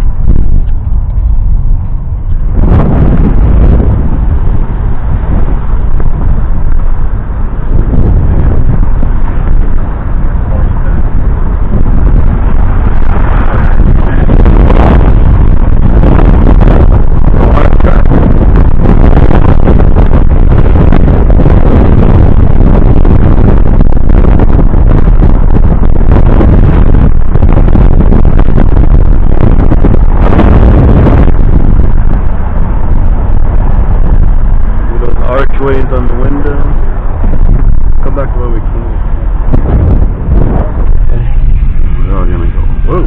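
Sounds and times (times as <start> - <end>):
car road noise: 0.0 - 43.0
wind buffeting microphone: 0.0 - 43.0.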